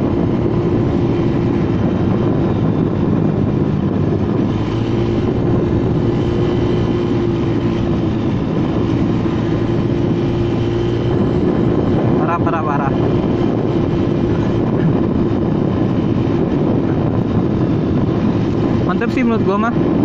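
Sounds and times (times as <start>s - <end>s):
scooter engine running hard: 0.0s - 20.0s
wind and road noise: 0.0s - 20.0s.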